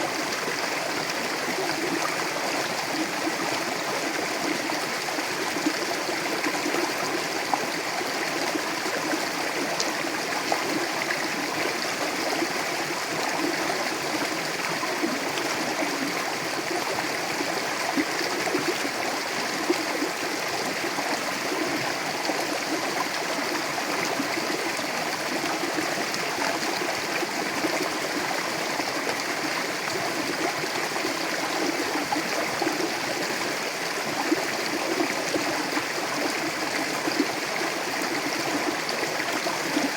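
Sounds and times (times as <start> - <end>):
river flowing over rocks: 0.1 - 39.9.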